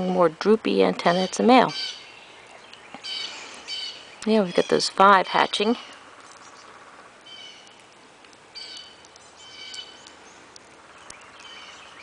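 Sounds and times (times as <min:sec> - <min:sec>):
faint outdoor hiss: 0:00.0 - 0:12.0
bird chirping: 0:00.9 - 0:07.8, 0:08.5 - 0:12.0.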